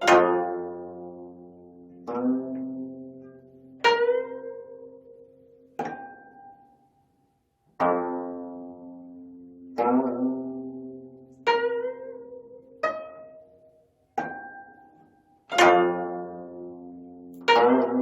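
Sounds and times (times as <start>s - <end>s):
plucked zither chords: 0.0s - 6.9s, 7.8s - 18.0s.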